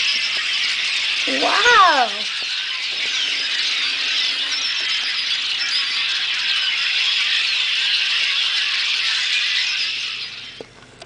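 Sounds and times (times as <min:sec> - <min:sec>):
flock of blackbirds calling: 0:00.0 - 0:10.3.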